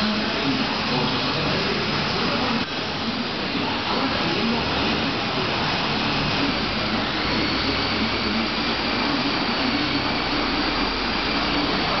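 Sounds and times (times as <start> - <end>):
rushing machine noise: 0.0 - 12.0.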